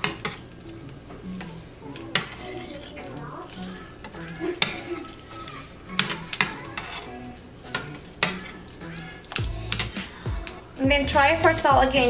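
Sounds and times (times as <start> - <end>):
metal utensil stirring soup: 0.0 - 10.6
soft background music: 0.0 - 12.0.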